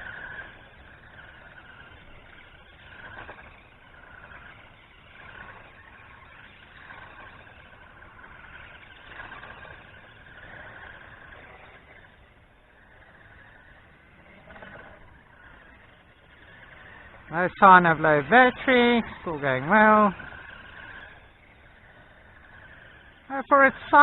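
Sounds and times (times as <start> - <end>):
electric toy car motor whine: 0.0 - 24.0.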